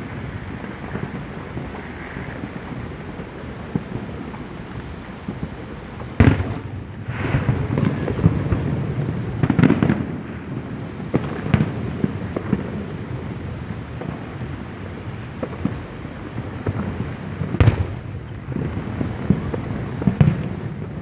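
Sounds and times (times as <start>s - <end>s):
firework booms: 0.0s - 21.0s
fireworks rumbling and crackling: 0.0s - 21.0s
firework pops: 0.6s - 13.4s, 14.0s - 21.0s.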